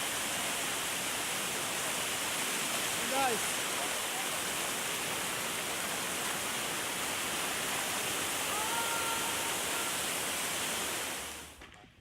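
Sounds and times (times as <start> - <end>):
rushing water: 0.0 - 11.6.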